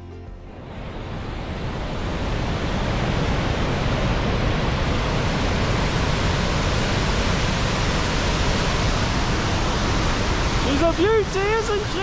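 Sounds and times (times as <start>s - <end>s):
waterfall rushing: 1.1s - 12.0s.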